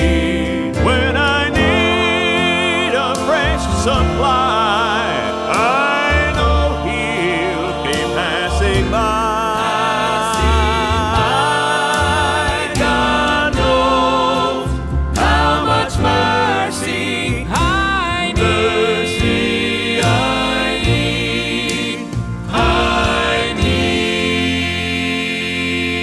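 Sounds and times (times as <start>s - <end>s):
instrumental backing with bass line: 0.0s - 26.0s.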